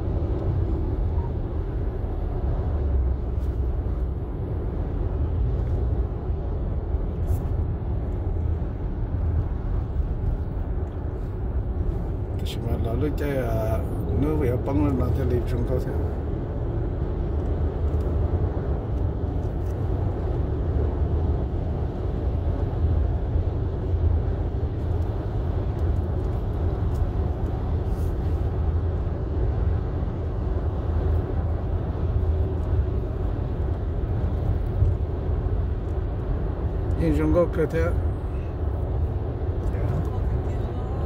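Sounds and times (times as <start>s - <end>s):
car cabin road and engine rumble: 0.0s - 41.0s.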